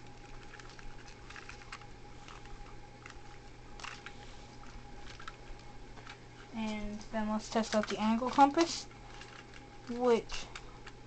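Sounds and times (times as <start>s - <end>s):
plastic toy clicks and rubs: 0.0s - 6.2s, 7.5s - 11.0s
faint steady hum: 0.0s - 11.0s.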